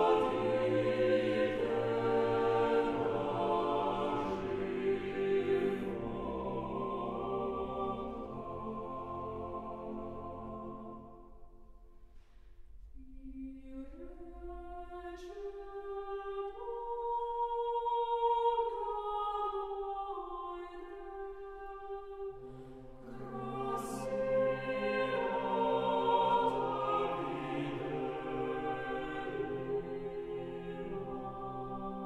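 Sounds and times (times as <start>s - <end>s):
choir singing sustained chords: 0.0s - 11.8s, 13.2s - 32.0s.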